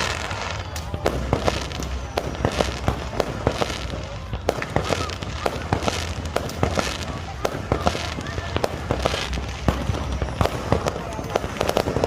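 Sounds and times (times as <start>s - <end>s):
fireworks bangs: 0.0s - 12.0s
fireworks hissing: 0.0s - 12.0s.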